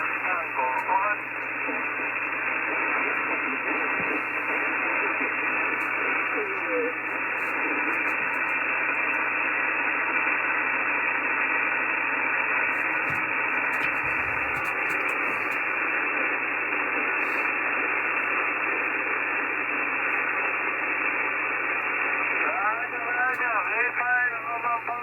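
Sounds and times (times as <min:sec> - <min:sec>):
radio band noise hiss: 0:00.0 - 0:25.0.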